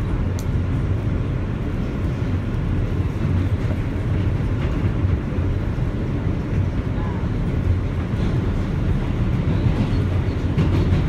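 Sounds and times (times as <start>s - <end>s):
subway train rumble: 0.0s - 11.0s.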